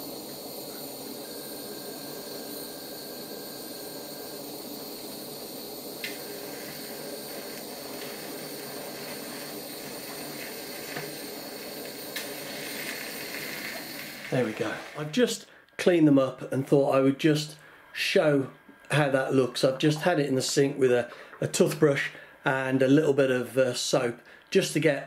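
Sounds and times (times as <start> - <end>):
blow lamp flame hissing: 0.0 - 25.0.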